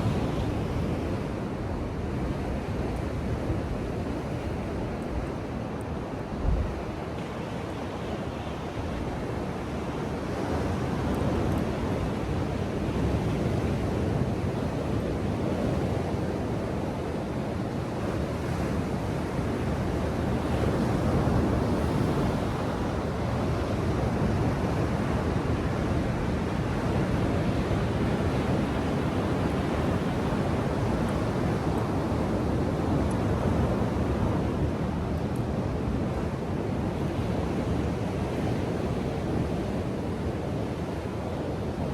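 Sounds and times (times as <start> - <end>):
ocean waves breaking ashore: 0.0 - 41.9.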